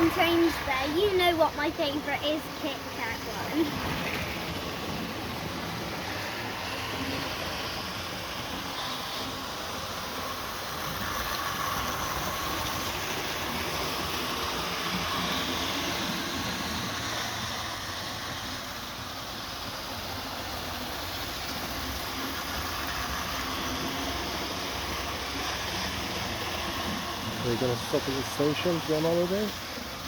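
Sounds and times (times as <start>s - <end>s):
model train running on track: 0.0s - 30.0s.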